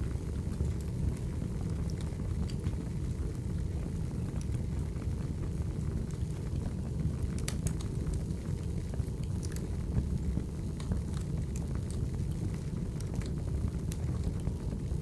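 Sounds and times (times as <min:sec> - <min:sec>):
fire crackling and popping: 0:00.0 - 0:15.0
wood fire rumble: 0:00.0 - 0:15.0.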